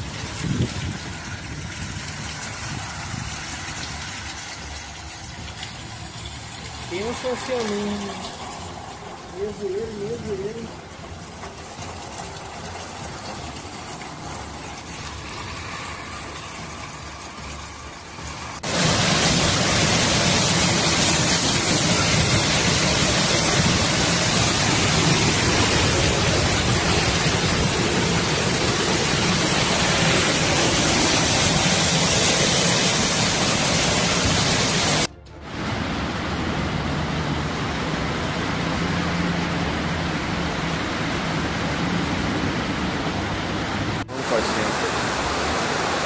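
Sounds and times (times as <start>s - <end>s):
torrential rain pouring: 0.0s - 46.0s.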